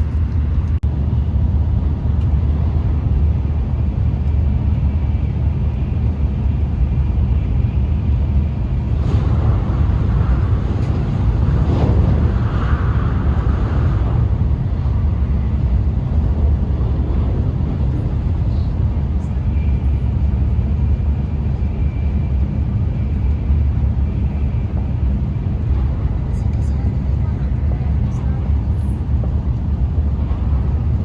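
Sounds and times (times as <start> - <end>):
train cabin rumble and rushing: 0.0 - 31.0.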